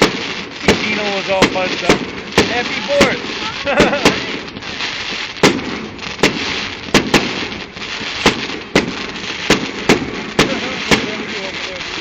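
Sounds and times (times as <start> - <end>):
fireworks bangs: 0.0 - 12.0
steady hiss: 0.0 - 12.0.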